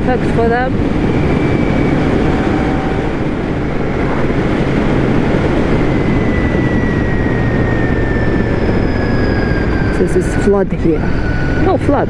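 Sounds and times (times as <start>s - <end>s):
motorcycle engine cruising: 0.0s - 12.0s
wind noise on microphone: 0.0s - 12.0s.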